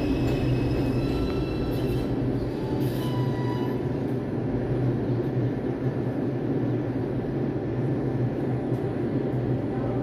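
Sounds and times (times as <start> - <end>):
subway train humming: 0.0 - 10.0.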